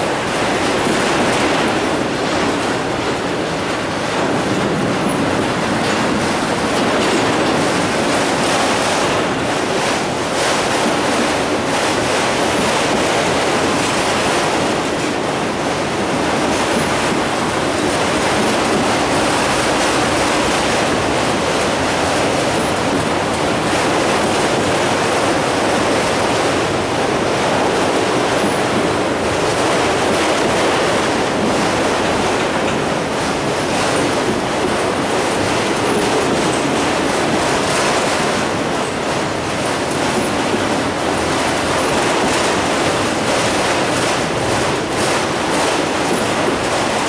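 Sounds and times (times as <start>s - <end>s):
freight train passing: 0.0s - 47.0s
steel wheels rolling on rails: 0.0s - 47.0s.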